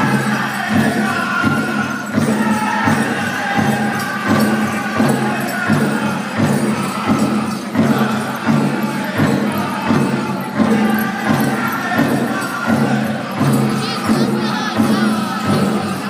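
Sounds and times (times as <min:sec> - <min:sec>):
group singing in high voices: 0:00.0 - 0:16.0
leg bells jingling: 0:00.0 - 0:16.0
steady big drum beat: 0:00.0 - 0:16.0.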